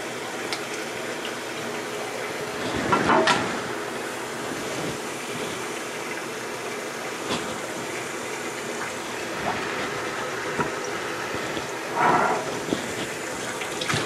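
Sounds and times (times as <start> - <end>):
faucet water splashing into sink: 0.0 - 14.0.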